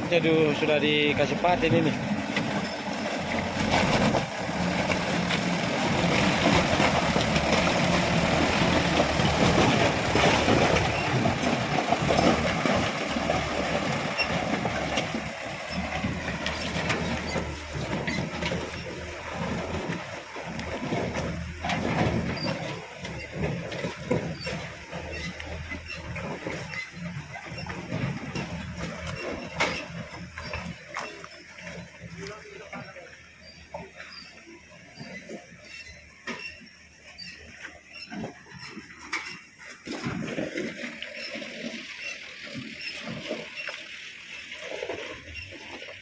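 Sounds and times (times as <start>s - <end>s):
diesel truck engine under load: 0.0s - 46.0s.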